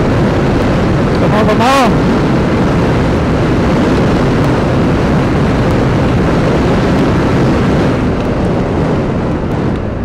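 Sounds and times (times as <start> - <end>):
scooter engine at high speed: 0.0 - 10.0
wind rushing: 0.0 - 10.0.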